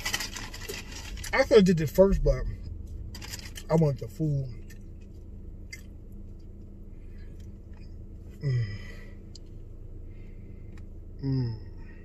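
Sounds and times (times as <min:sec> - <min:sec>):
low car cabin hum: 0:00.0 - 0:12.0.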